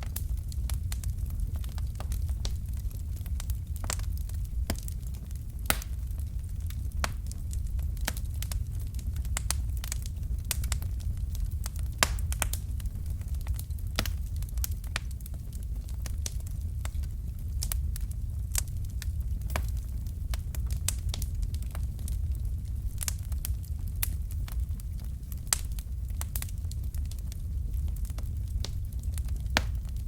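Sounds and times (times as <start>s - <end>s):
fire crackling and popping: 0.0s - 30.0s
low rumble: 0.0s - 30.0s.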